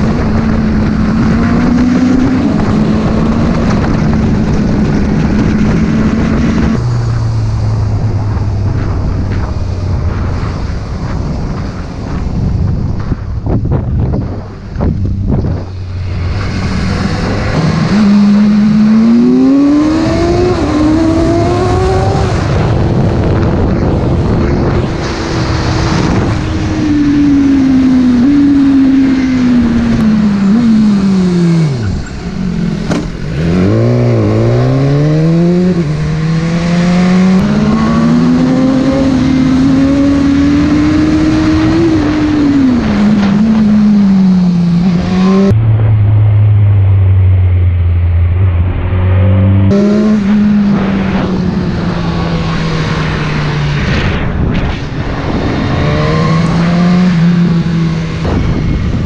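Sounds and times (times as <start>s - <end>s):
motorcycle engine accelerating: 0.0s - 59.0s
wind rushing over microphone: 0.0s - 59.0s.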